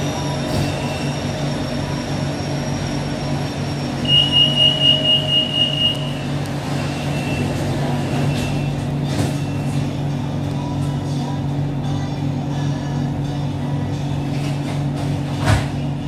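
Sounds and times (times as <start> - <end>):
train car hum: 0.0 - 16.0.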